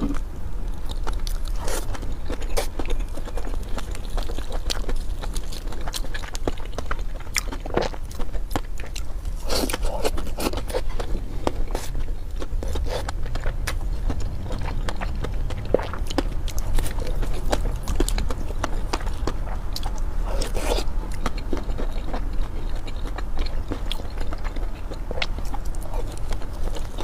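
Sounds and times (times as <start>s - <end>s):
chewing and biting food: 0.0s - 27.0s.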